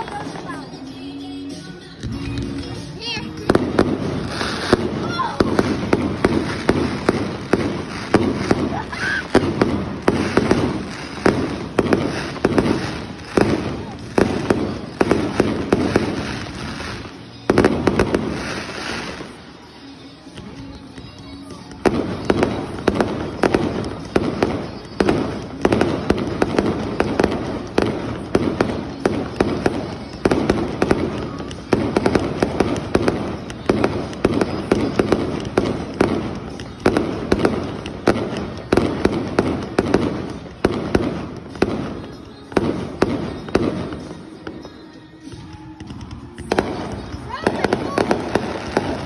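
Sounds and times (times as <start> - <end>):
fireworks banging: 0.0 - 49.0
fireworks crackling: 0.0 - 49.0.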